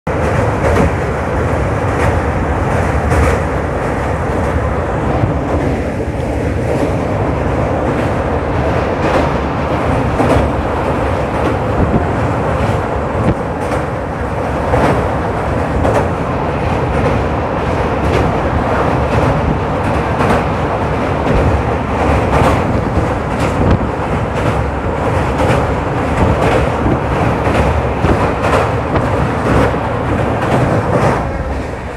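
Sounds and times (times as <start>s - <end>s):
train wheels rumbling on rails: 0.1s - 31.9s.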